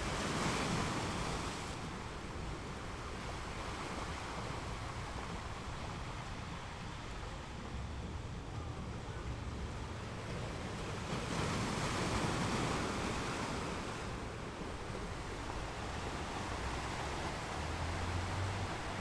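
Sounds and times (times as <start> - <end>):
low rumble of surf: 0.0 - 19.0
ocean waves washing ashore: 0.0 - 19.0.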